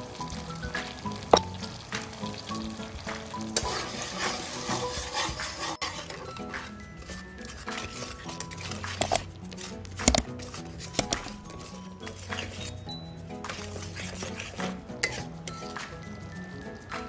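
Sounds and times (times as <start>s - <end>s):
light background music: 0.0s - 17.0s
sauce sizzling in a wok: 0.0s - 17.0s
metal spatula scraping wok: 0.8s - 17.0s.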